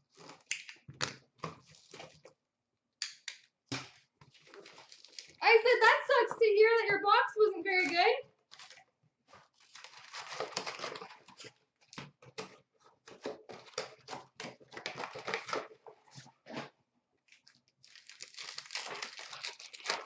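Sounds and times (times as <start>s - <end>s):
card packs rustling and crinkling: 3.8s - 20.0s.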